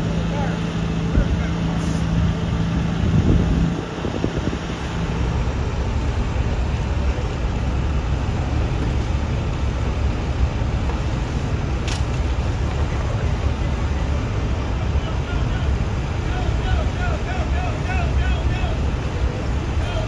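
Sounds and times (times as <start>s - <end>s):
diesel truck engine rumble: 0.0s - 20.0s.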